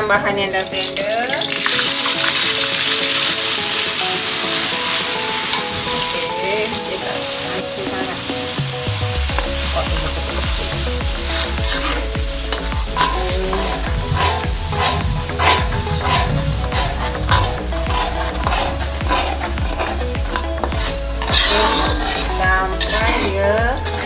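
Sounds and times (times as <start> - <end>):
metal ladle scraping a wok: 0.4 - 24.0
paste sizzling in hot oil: 0.4 - 24.0.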